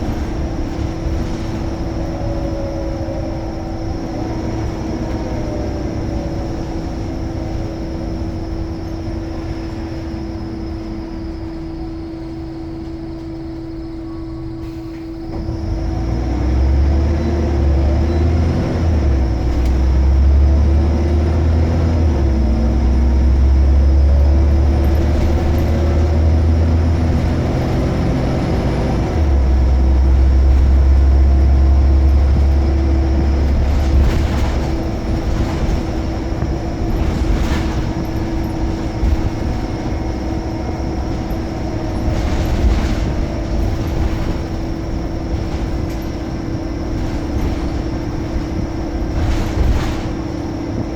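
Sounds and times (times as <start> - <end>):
bus diesel engine droning: 0.0 - 50.9
steady whine: 0.0 - 50.9.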